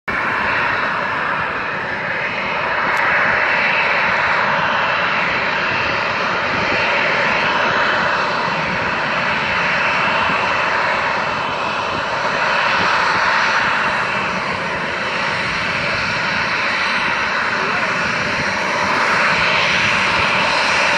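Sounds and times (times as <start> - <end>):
jet engines taxiing: 0.1 - 20.9.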